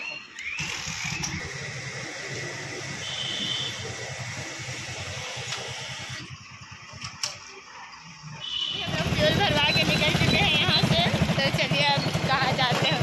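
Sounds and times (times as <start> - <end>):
fuel pump rushing hum: 0.4 - 7.6, 8.5 - 13.0.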